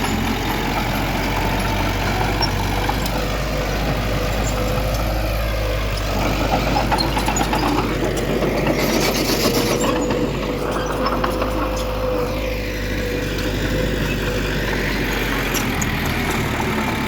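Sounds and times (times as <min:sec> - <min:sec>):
diesel engine rumble: 0:00.0 - 0:17.0
machinery rattling: 0:00.0 - 0:17.0.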